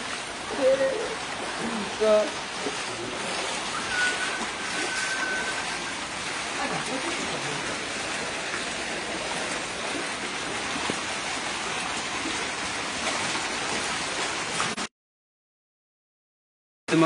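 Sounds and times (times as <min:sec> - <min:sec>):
steady hiss of water: 0:00.0 - 0:14.8.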